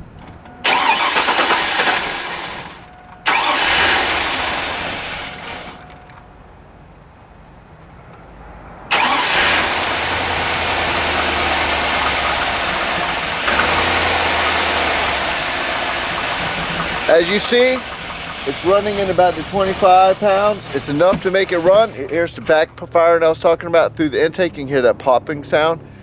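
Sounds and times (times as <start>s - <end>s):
car engine starting and running rough: 0.0s - 6.3s, 8.9s - 23.8s.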